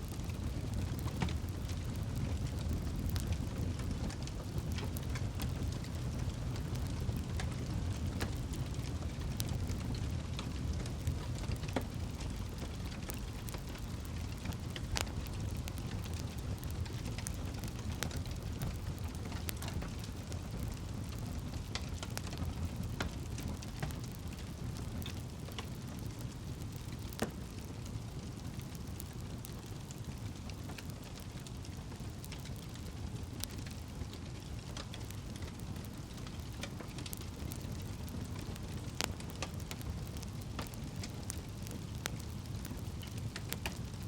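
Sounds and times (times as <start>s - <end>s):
campfire crackling and popping: 0.0s - 44.0s.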